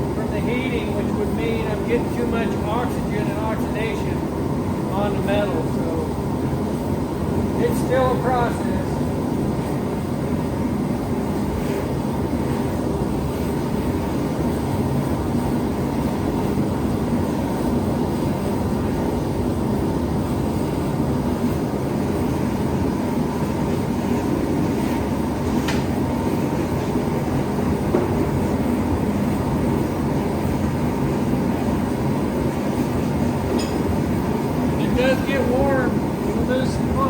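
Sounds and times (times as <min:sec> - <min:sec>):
gas forge burners rushing: 0:00.0 - 0:37.0.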